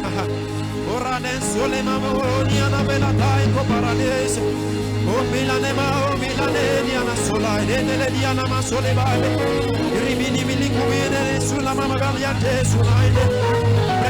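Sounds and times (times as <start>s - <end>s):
voices singing without words: 0.0s - 14.0s.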